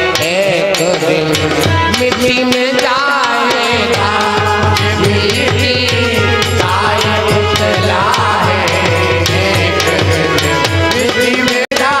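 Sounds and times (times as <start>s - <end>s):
tabla drumming: 0.0s - 12.0s.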